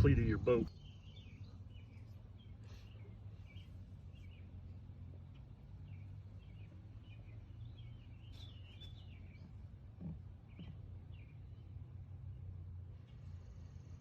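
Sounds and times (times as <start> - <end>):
faint birds chirping: 0.0 - 14.0
low steady rumble: 0.0 - 14.0.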